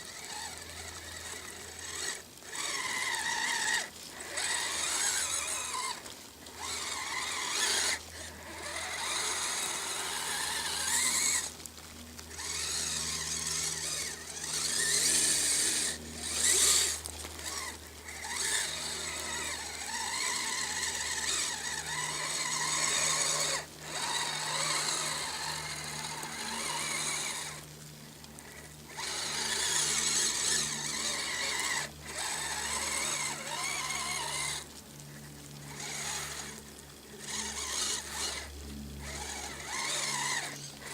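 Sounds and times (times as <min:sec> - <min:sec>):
electric motors whining: 0:00.0 - 0:40.9.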